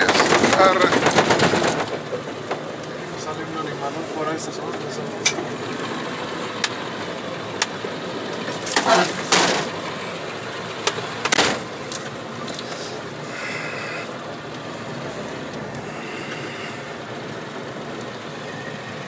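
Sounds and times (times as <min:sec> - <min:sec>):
vehicle engine and tyre noise: 0:00.0 - 0:19.0.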